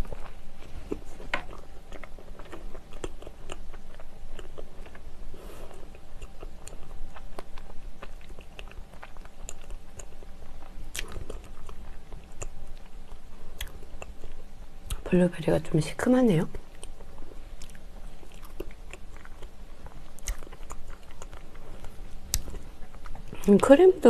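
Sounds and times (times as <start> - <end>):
person chewing soft food: 0.0 - 15.0, 16.6 - 23.6.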